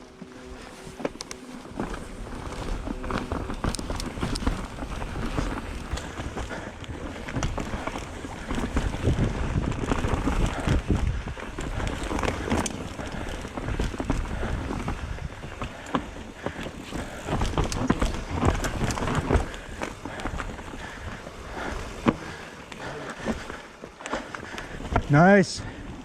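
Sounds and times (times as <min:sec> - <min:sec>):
bike tyres rumbling over dirt: 0:00.0 - 0:26.0
bike rattling and knocking: 0:00.2 - 0:26.0.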